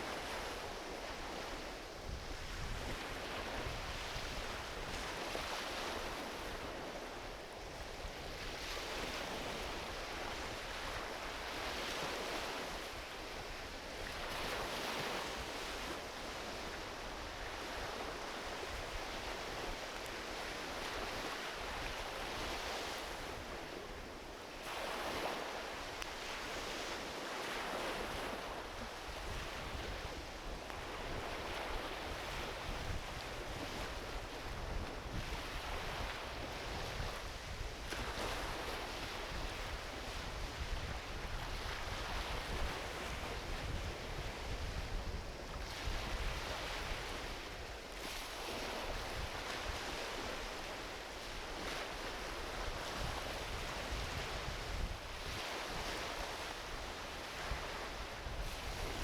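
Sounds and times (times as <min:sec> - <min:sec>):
small waves washing up beach: 0:00.0 - 0:59.0.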